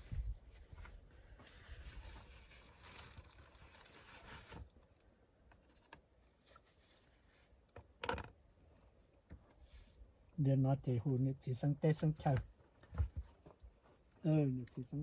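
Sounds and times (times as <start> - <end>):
rustling and handling noise: 0.0 - 10.4, 12.1 - 15.0.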